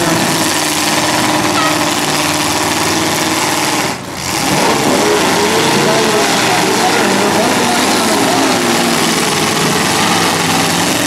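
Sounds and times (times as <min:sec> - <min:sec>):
car engines running loud: 0:00.0 - 0:11.0.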